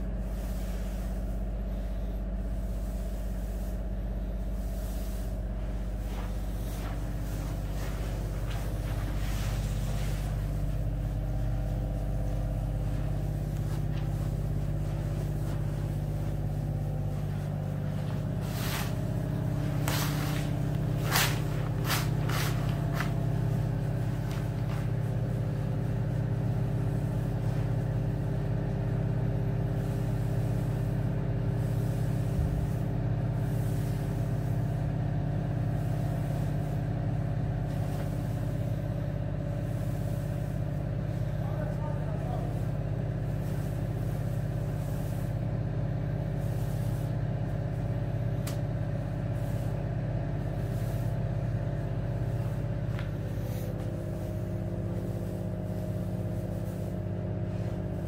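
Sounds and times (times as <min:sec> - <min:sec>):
machinery droning: 0:00.0 - 0:58.0.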